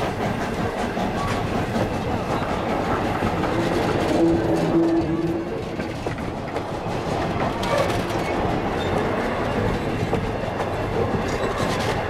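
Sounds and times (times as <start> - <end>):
steel wheels clicking over rails: 0.0 - 12.0
train coaches rumbling past: 0.0 - 12.0.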